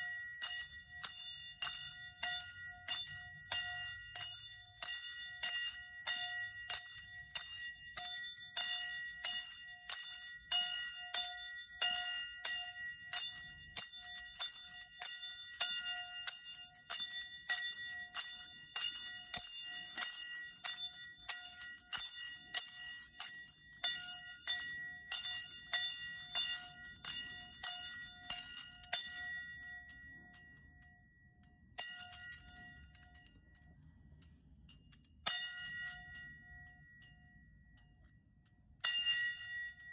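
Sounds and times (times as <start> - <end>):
small bell ringing: 0.0 - 39.9.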